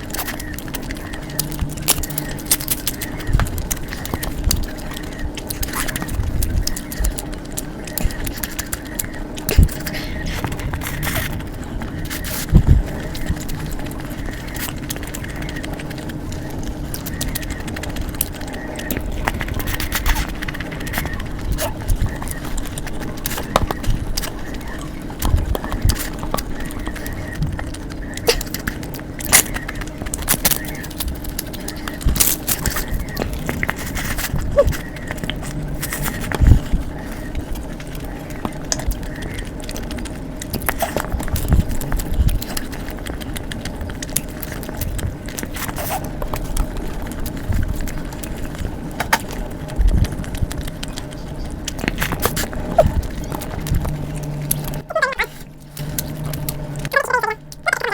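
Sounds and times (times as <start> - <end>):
close-up eating sounds: 0.0 - 57.9
steady low hum: 0.0 - 57.9.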